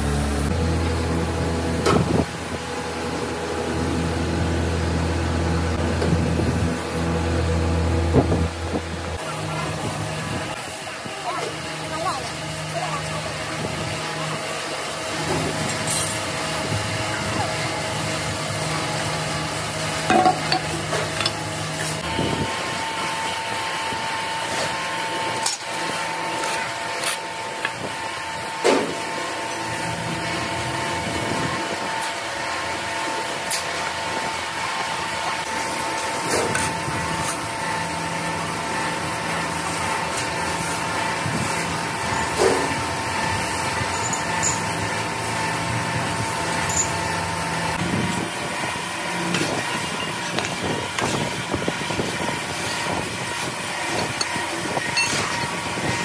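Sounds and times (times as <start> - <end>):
machinery hum and hiss: 0.0 - 56.0.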